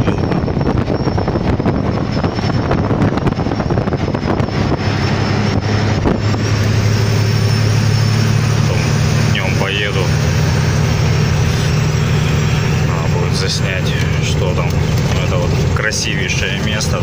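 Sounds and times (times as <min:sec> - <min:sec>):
road and wind noise: 0:00.0 - 0:17.0
truck engine drone: 0:00.0 - 0:17.0.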